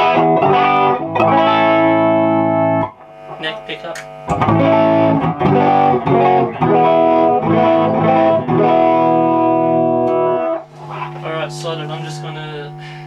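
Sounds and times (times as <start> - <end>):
electric guitar with crunchy distortion: 0.0 - 13.0.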